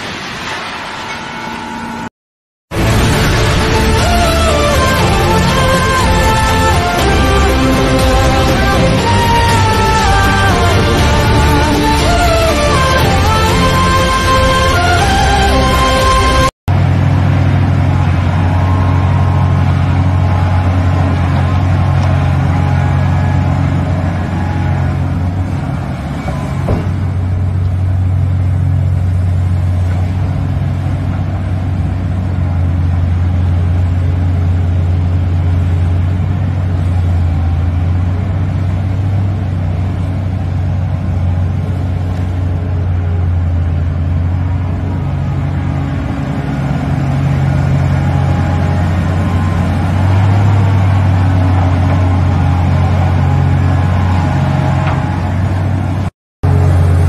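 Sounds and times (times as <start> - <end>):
excavator diesel engine droning: 2.7 - 57.0.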